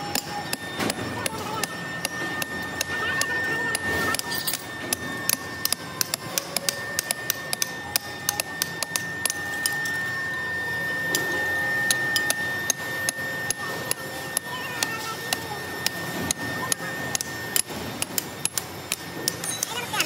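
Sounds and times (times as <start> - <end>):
sharp metallic clicks and clinks: 0.0 - 10.1, 11.9 - 20.0
high-pitched machine whine: 0.0 - 20.0.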